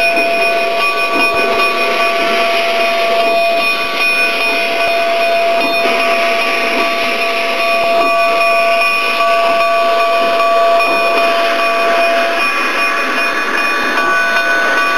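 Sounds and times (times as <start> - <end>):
steam locomotive hissing steam: 0.0 - 14.9.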